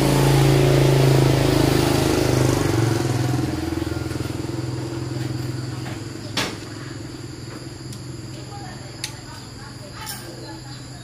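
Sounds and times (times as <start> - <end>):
motorbike engine running: 0.0 - 9.6.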